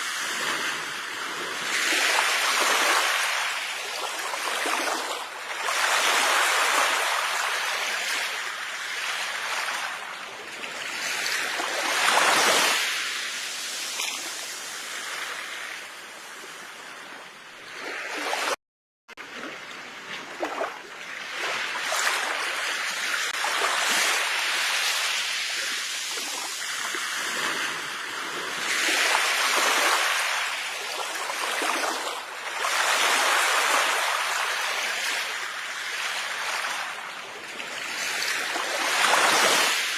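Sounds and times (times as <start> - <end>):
sea waves washing onto shore: 0.0 - 18.6, 19.2 - 39.9.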